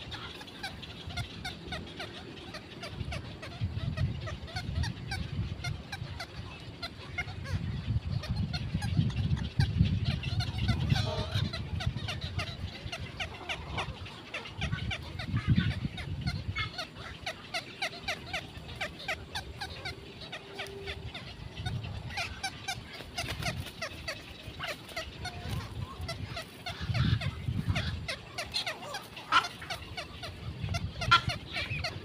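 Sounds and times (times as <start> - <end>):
many birds chattering: 0.0 - 32.0.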